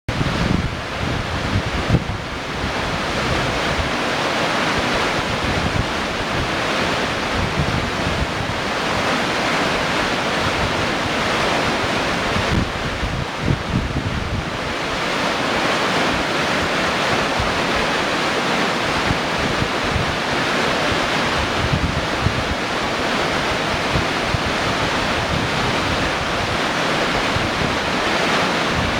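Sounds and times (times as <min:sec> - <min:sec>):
waterfall rushing: 0:00.1 - 0:28.9
wind buffeting microphone: 0:00.1 - 0:28.9.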